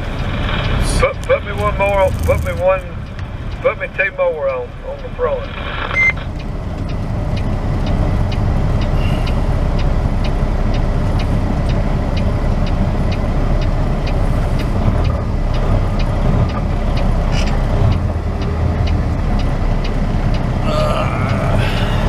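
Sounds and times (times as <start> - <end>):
turn signal clicking: 0.0 - 21.8
truck engine and road rumble: 0.0 - 22.0.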